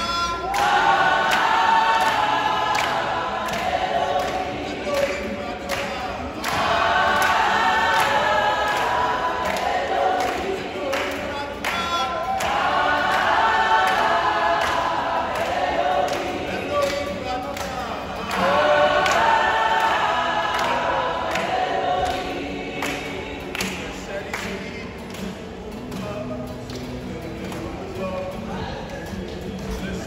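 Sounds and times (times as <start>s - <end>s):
acoustic guitar: 0.0s - 30.0s
crowd singing in chorus: 0.0s - 30.0s
hand claps: 0.0s - 30.0s.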